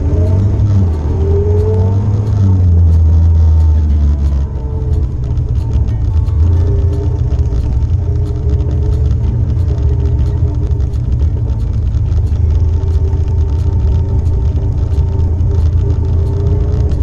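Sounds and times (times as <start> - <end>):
atv engine running: 0.0 - 17.0
sharp ticks: 0.0 - 17.0.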